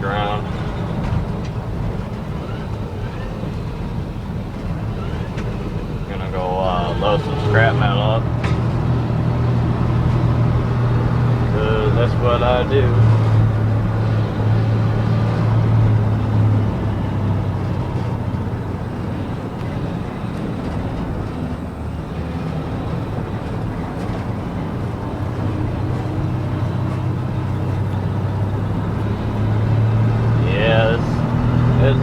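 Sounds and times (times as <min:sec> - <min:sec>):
road noise: 0:00.0 - 0:32.0
truck engine running: 0:00.0 - 0:32.0.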